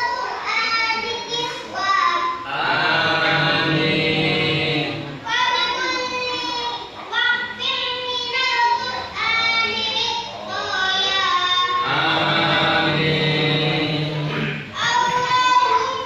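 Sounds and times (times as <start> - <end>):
boy chanting recitation: 0.0 - 16.0.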